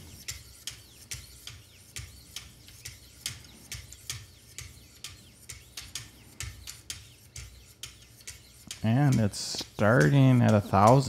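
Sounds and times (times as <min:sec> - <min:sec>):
knife sharpening strokes: 0:00.0 - 0:11.0.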